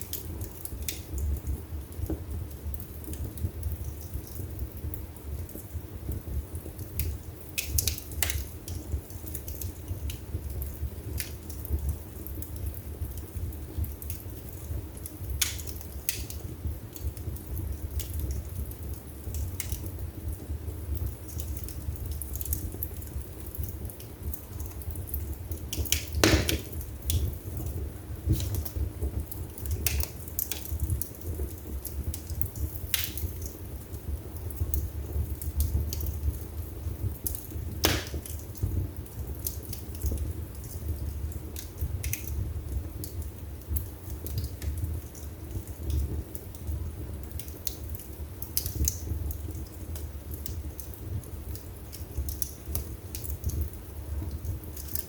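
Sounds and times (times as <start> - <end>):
burning logs crackling and popping: 0.0 - 55.0
fire flames rumbling: 0.0 - 55.0.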